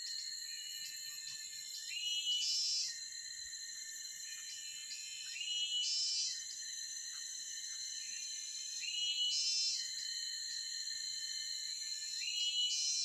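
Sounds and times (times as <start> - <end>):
high-pitched insect chorus: 0.0 - 13.0
rising insect call: 0.0 - 13.0.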